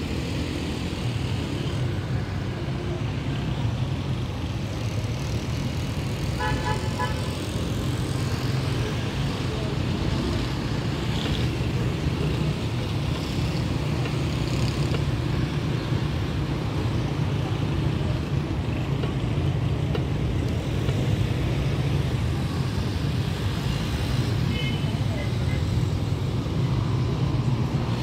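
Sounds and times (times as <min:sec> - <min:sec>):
road and engine rumble: 0:00.0 - 0:28.0.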